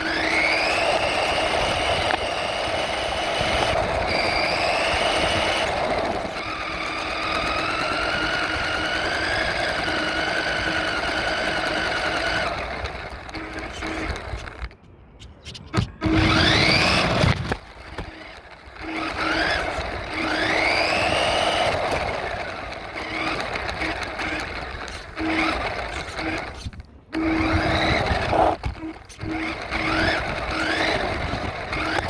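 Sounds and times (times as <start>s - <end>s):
toy truck motor revving: 0.0s - 14.8s, 16.0s - 32.0s.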